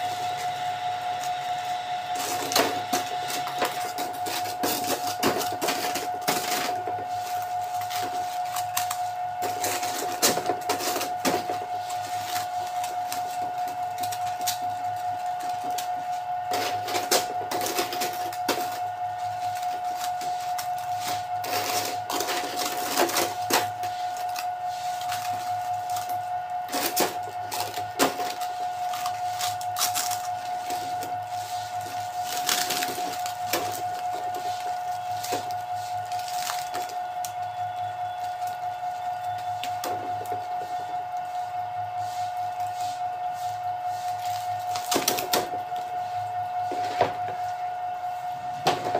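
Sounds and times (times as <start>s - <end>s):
steady high-pitched hum: 0.0s - 48.9s
plastic bag crinkling: 1.3s - 47.7s.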